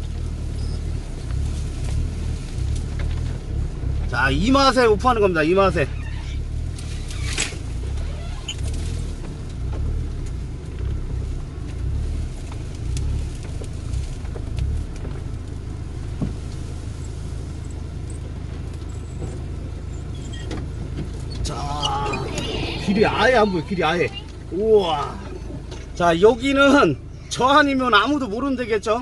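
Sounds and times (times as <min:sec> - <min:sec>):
branches scraping car body: 0:00.0 - 0:29.0
engine and drivetrain rumble: 0:00.0 - 0:29.0.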